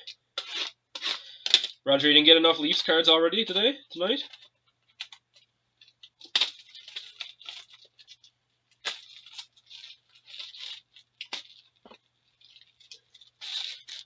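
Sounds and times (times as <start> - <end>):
plastic wrapping crinkling and tearing: 0.0 - 14.0.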